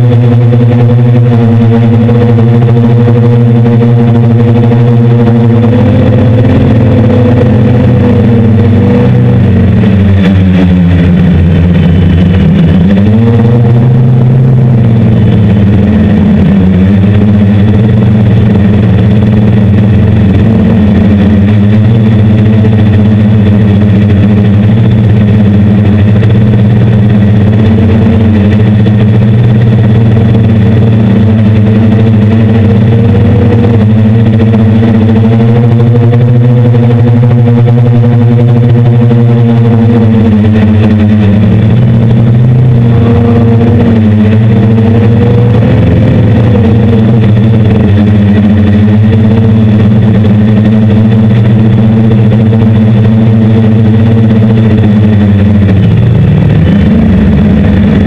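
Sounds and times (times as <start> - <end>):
drone motors and propellers droning: 0.0 - 58.0.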